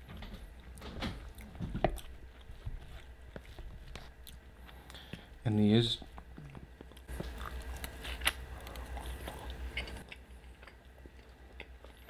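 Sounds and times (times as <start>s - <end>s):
person chewing food: 0.6s - 5.4s, 6.0s - 12.0s.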